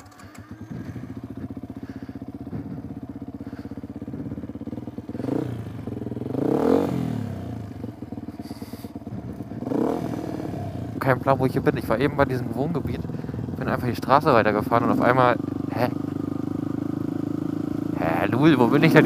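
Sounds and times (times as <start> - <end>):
dirt bike engine revving: 0.0 - 11.2, 14.4 - 19.0.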